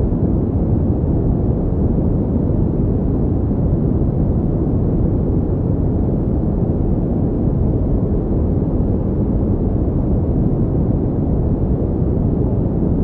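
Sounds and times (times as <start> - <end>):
deep rumbling pink noise: 0.0 - 13.0.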